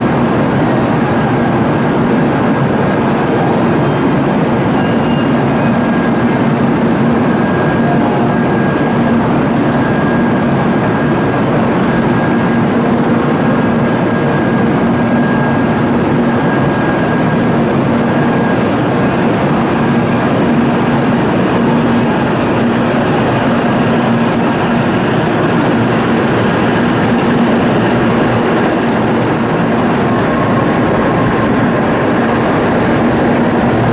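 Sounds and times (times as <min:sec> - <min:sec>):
train rumbling: 0:00.0 - 0:33.9.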